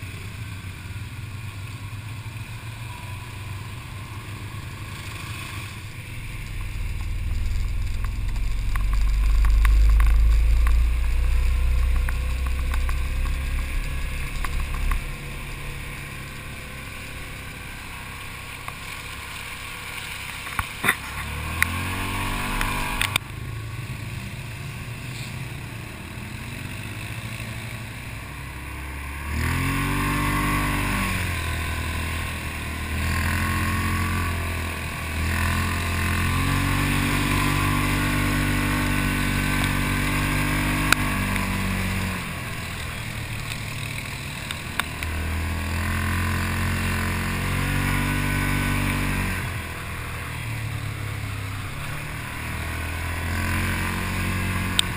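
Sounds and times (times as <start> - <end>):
quad engine revving: 2.3 - 54.9.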